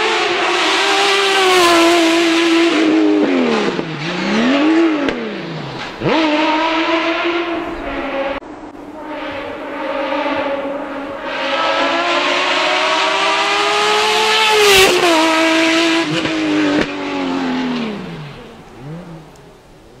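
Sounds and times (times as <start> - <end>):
racing car engine accelerating past: 0.0 - 20.0.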